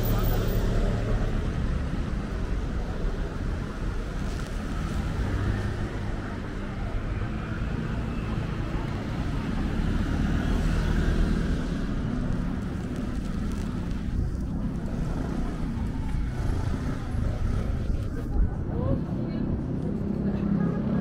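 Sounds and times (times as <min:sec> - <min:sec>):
road traffic rumble: 0:00.0 - 0:21.0
vehicle engines running: 0:00.0 - 0:21.0.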